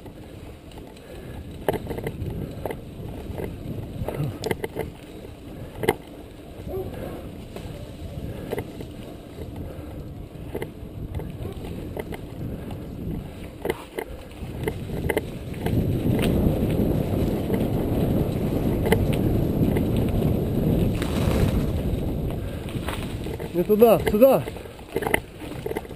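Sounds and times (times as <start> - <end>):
bike clicks and rattles: 0.0 - 25.9
bike tyre rumble: 0.0 - 25.9
wind on microphone: 0.0 - 25.9.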